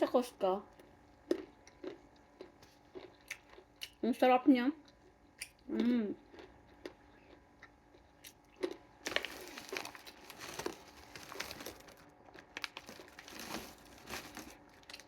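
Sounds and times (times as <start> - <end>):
almonds being chewed: 0.7 - 4.0, 4.8 - 15.0.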